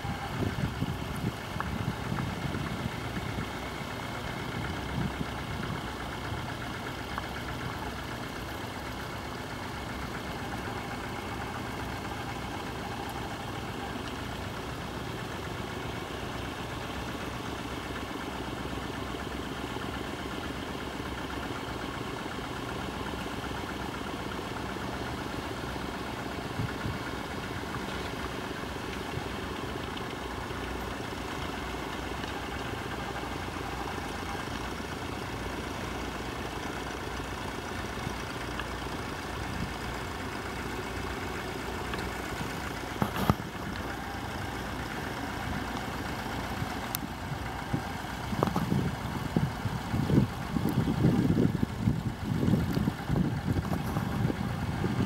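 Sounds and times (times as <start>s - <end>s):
tractor engines running: 0.0s - 55.0s.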